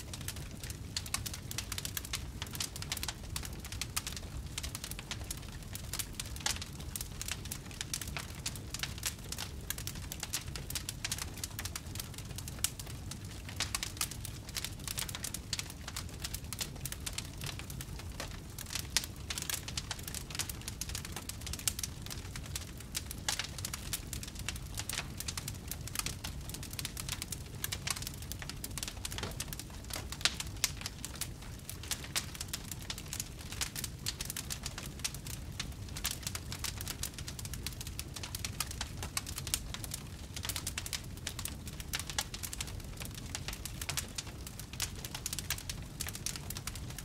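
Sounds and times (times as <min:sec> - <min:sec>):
low rumble of burning logs: 0:00.0 - 0:47.0
wood fire crackling: 0:00.0 - 0:47.0.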